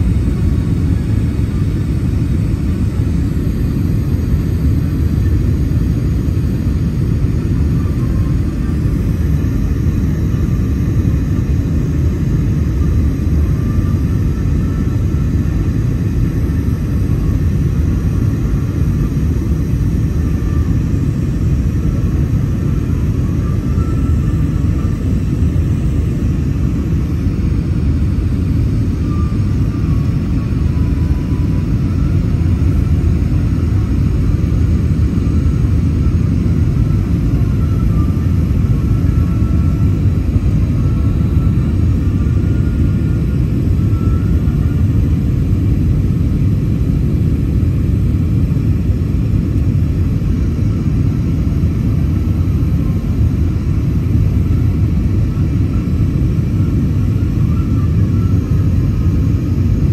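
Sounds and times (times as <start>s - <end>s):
airliner cabin engine rumble: 0.0s - 59.9s
faint wavering whine: 0.0s - 59.9s.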